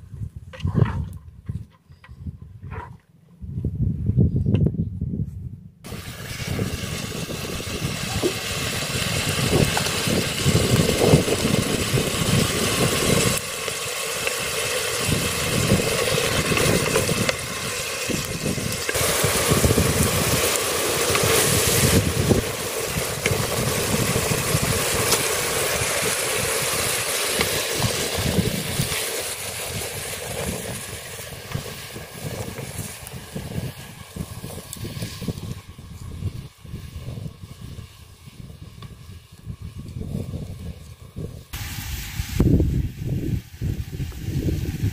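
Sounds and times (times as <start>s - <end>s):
gusty wind on microphone: 0.0s - 44.9s
wood fire burning: 5.8s - 44.9s
zucchini frying in pot: 5.9s - 44.9s.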